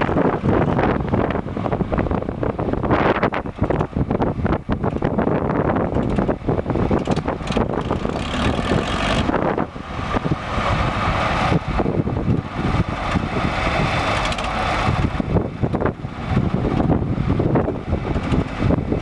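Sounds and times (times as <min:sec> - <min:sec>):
tractor diesel engine running: 0:00.0 - 0:19.0
wind buffeting microphone: 0:00.0 - 0:19.0.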